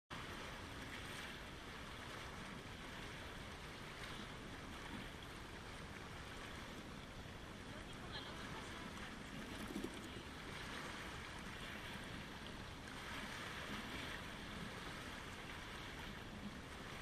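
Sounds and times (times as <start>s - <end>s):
waves lapping on pebbles: 0.1s - 17.0s.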